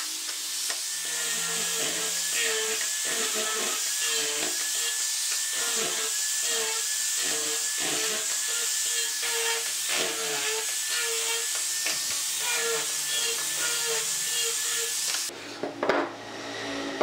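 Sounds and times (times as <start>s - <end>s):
angle grinder sanding wood: 0.0s - 15.4s.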